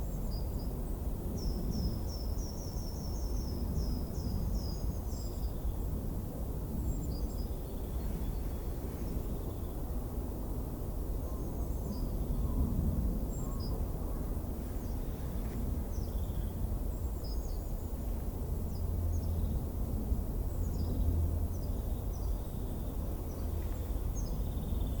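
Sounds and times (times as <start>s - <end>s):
low rumble of wind: 0.0s - 25.0s.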